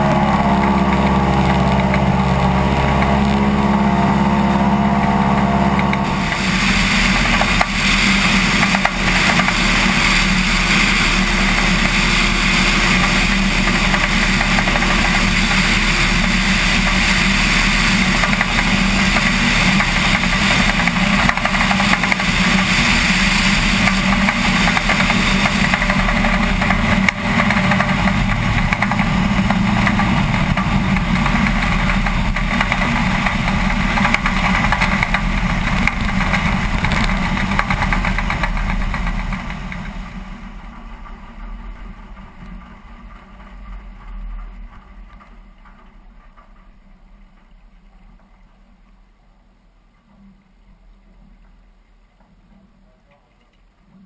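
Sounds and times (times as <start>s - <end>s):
wind rush: 0.0s - 45.2s
propeller plane engine in flight: 0.0s - 48.7s.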